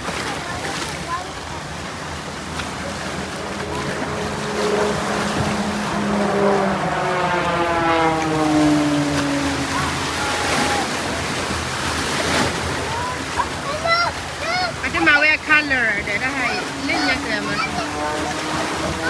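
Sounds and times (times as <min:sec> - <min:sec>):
aircraft engine roar: 0:00.0 - 0:19.0.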